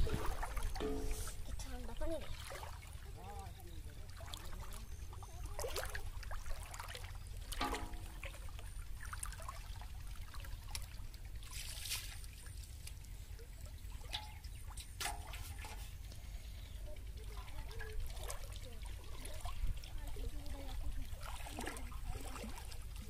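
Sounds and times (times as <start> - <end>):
steady low rumble: 0.0 - 23.0
water sloshing and trickling: 0.0 - 23.0
water splashes: 0.0 - 23.0.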